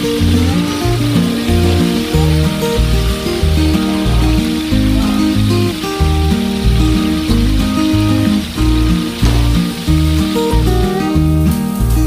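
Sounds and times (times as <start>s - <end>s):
fish frying in oil: 0.0s - 12.0s
instrumental background music: 0.0s - 12.0s.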